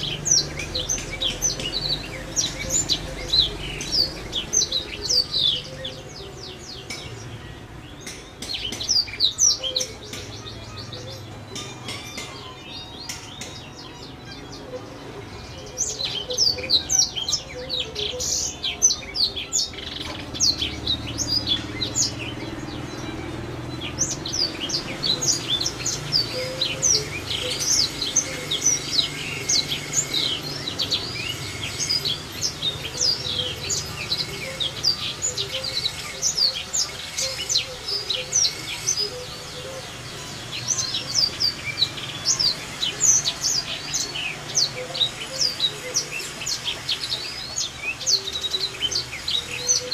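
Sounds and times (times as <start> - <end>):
small songbird singing: 0.0 - 49.9.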